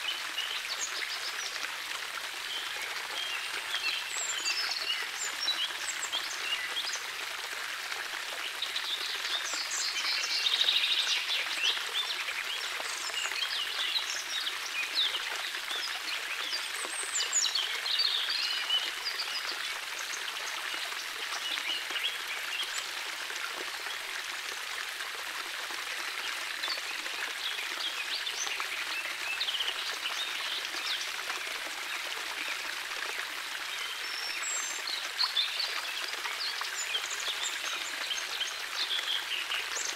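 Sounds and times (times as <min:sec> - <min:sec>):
water trickling over pebbles: 0:00.0 - 0:39.9.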